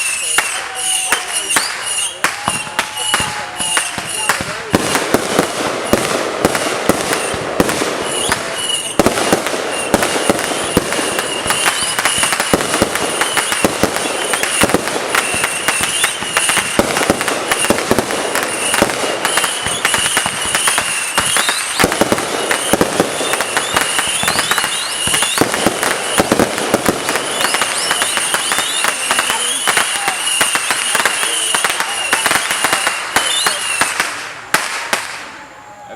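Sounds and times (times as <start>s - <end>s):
high wavering whistle: 0.0s - 4.7s, 7.0s - 26.4s, 27.1s - 33.9s
fireworks popping and crackling: 0.0s - 35.4s.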